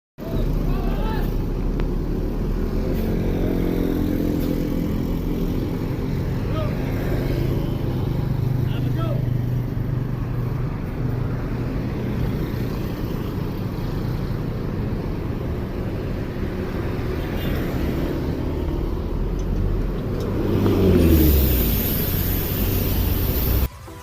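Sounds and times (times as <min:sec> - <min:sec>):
vehicle passing close: 0:00.2 - 0:23.8
vehicle engines rumbling: 0:00.2 - 0:24.0.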